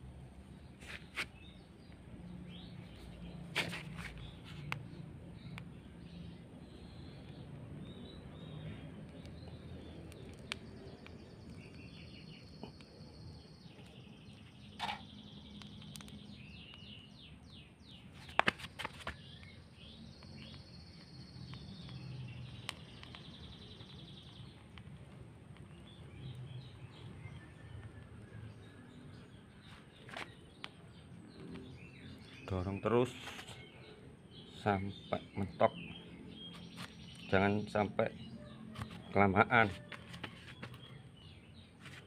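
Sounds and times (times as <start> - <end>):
small birds chirping and trilling: 0.0 - 42.0.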